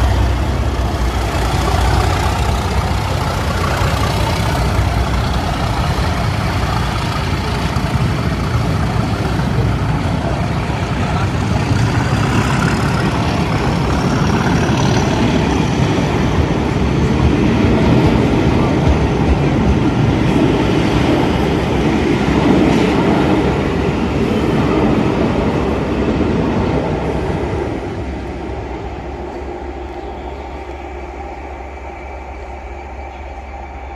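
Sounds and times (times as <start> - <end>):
diesel locomotive engines: 0.0 - 33.9.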